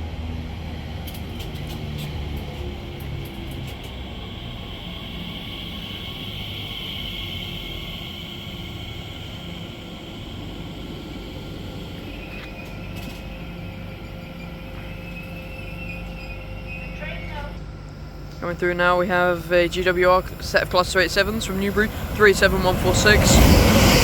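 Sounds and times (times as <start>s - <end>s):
electric train rumble and whine: 0.0s - 24.0s.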